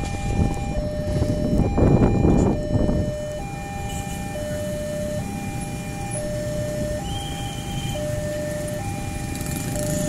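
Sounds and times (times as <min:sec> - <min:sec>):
two-tone crossing alarm: 0:00.0 - 0:10.0.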